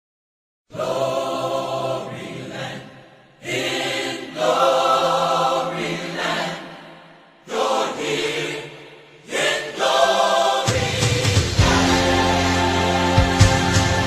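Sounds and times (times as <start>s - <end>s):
choir singing held chords: 0.7s - 14.0s.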